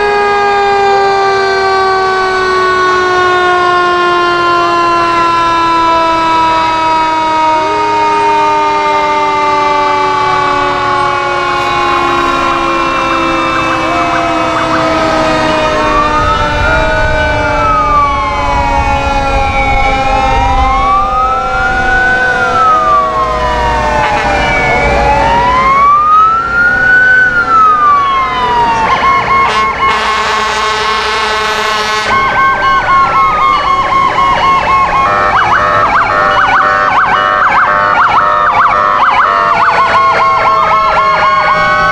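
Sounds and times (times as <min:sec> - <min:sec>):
pulsing siren yelp: 0:00.0 - 0:41.9
siren wailing: 0:00.0 - 0:41.9
siren winding down: 0:00.0 - 0:41.9.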